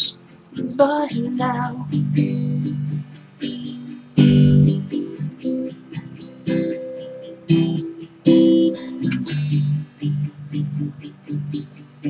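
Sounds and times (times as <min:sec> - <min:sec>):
guitar strumming chords: 0:00.0 - 0:12.0.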